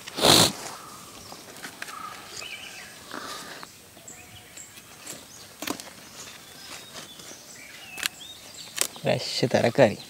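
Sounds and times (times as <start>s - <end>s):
bird chirps: 0.7s - 10.0s.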